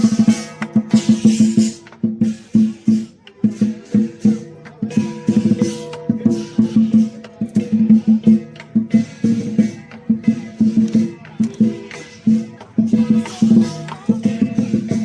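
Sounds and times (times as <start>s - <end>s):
crashing cymbals: 0.0s - 15.0s
drum beaten in rapid runs: 0.0s - 15.0s.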